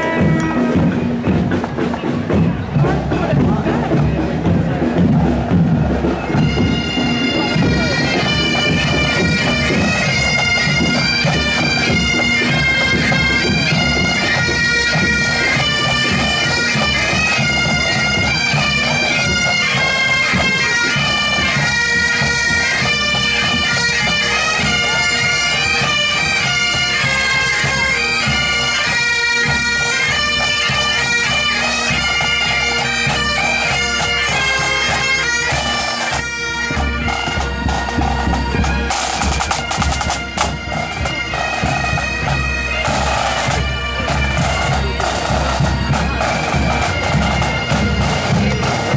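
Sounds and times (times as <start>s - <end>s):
bagpipe band playing marching tune: 0.0s - 48.9s.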